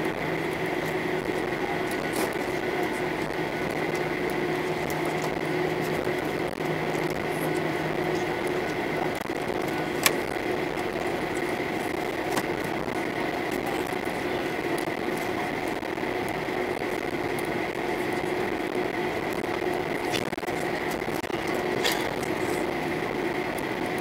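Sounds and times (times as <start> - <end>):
air conditioning rushing: 0.0 - 24.0
aircraft systems whine and hum: 0.0 - 24.0.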